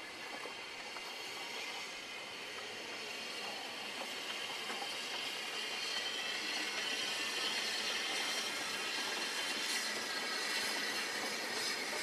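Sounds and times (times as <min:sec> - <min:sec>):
hiss of steam: 0:00.0 - 0:12.0
steam locomotive running past: 0:00.0 - 0:12.0.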